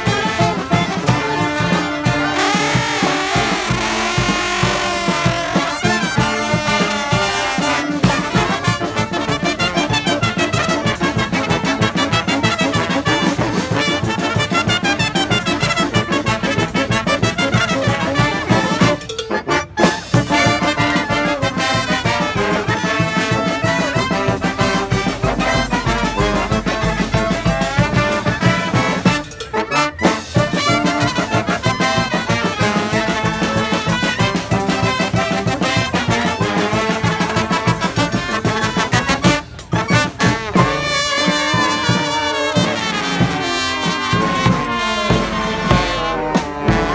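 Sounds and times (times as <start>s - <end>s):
brass marching band playing: 0.0s - 46.9s.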